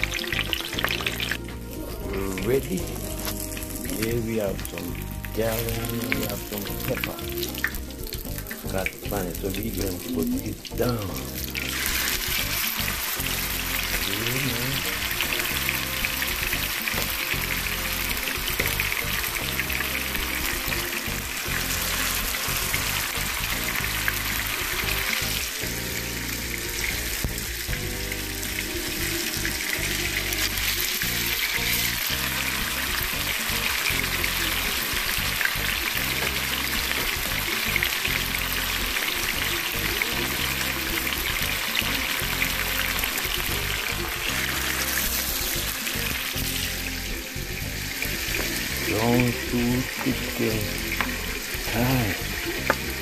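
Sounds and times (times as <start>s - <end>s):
background music: 0.0s - 53.0s
frying sizzle: 0.0s - 53.0s.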